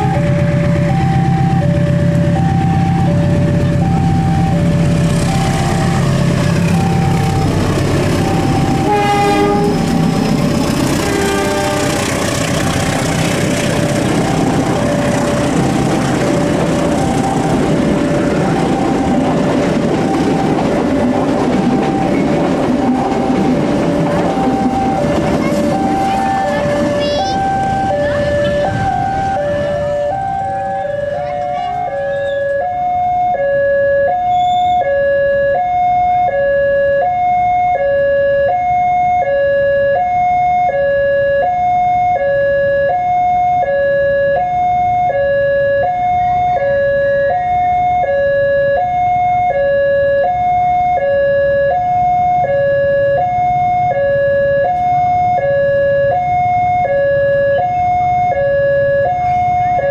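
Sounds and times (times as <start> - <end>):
two-tone crossing alarm: 0.0 - 59.9.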